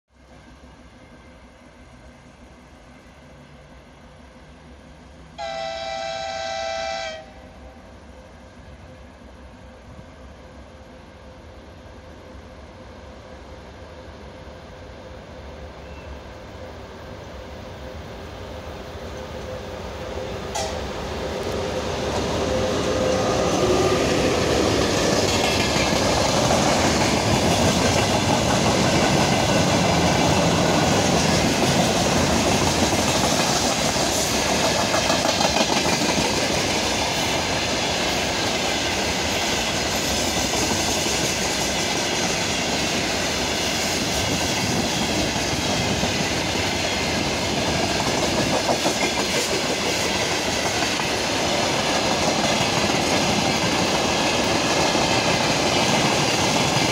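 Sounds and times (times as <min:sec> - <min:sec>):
electric locomotive passing: 0:00.1 - 0:56.9.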